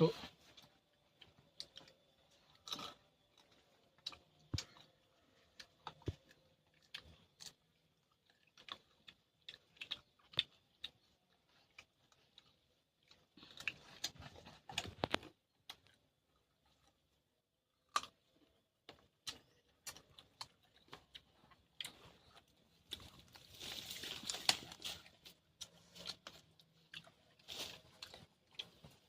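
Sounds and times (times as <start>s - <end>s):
crunchy chewing: 0.3s - 29.0s.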